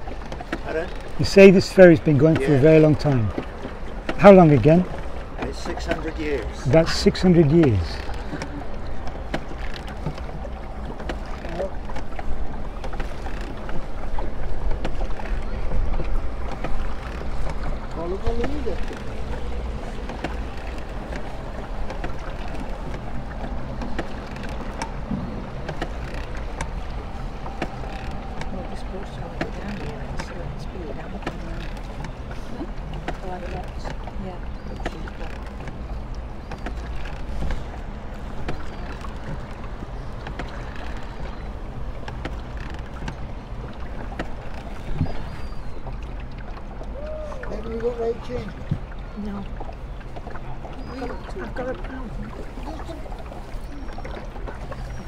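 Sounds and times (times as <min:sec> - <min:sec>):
oar knocks: 0:00.0 - 0:30.4, 0:32.9 - 0:47.0
oar splashes: 0:00.0 - 0:55.0.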